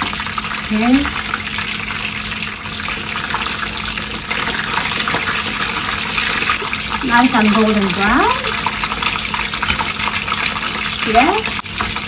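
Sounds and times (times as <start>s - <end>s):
spring rolls frying in oil: 0.0s - 12.0s.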